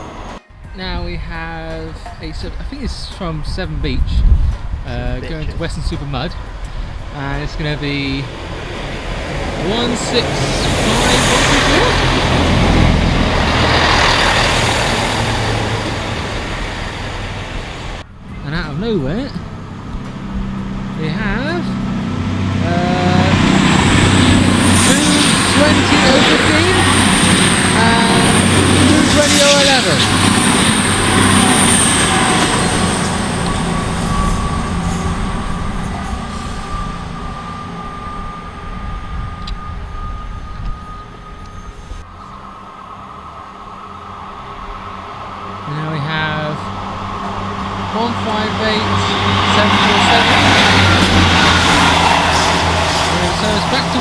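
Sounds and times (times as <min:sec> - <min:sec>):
diesel train passing: 0:00.0 - 0:54.0
steady high whine: 0:00.0 - 0:54.0.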